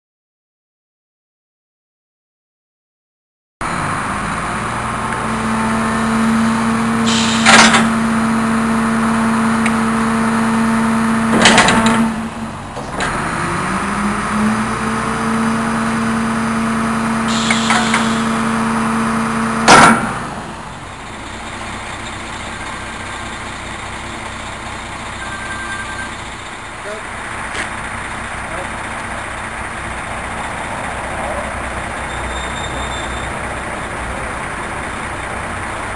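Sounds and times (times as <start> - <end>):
truck engine and hydraulic whine: 3.6 - 35.9
truck engine idling: 3.6 - 35.9.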